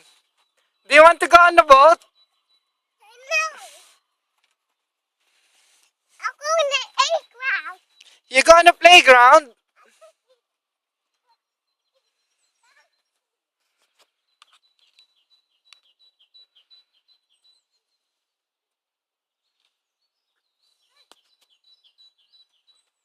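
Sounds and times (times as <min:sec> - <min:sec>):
small bird chirping: 0:00.0 - 0:18.5, 0:19.2 - 0:23.0.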